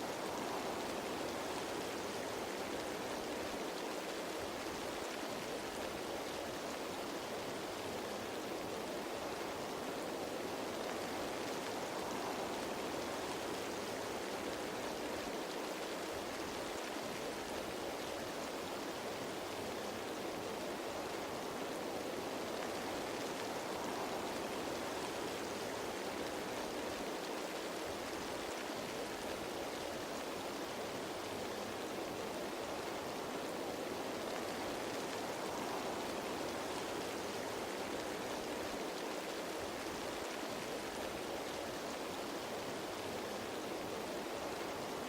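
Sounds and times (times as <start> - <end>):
rain falling on leaves: 0.0 - 45.0.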